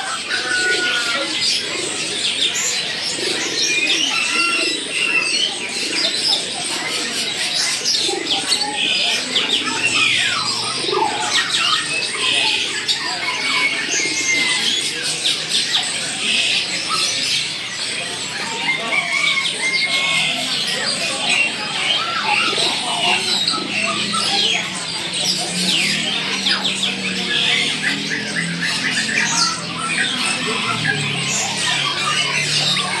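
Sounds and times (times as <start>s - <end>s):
birds chirping: 0.0s - 33.0s
pigeons cooing: 0.0s - 33.0s.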